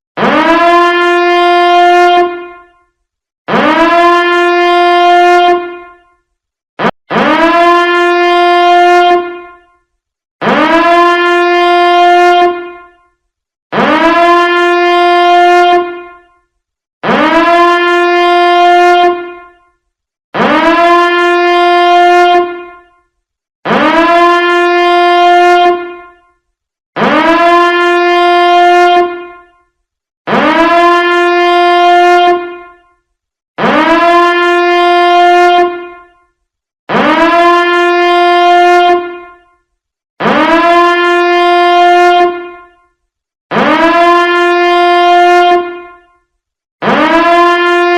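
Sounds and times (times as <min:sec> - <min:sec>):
alarm horn blasts: 0:00.2 - 0:47.9.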